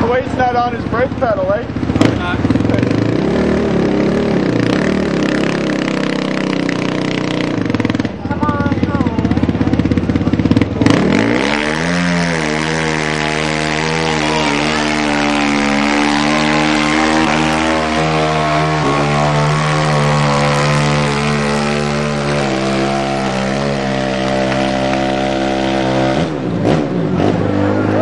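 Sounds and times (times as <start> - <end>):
quad engine revving hard: 0.0 - 28.0.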